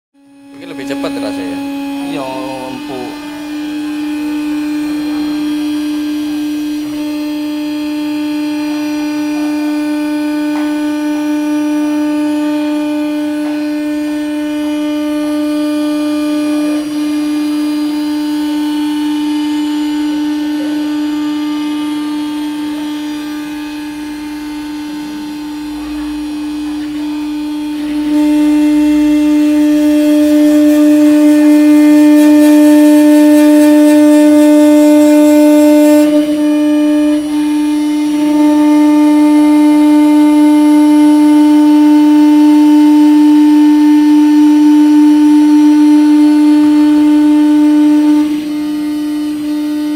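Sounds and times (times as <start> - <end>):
router spindle motor whine: 0.2 - 49.9.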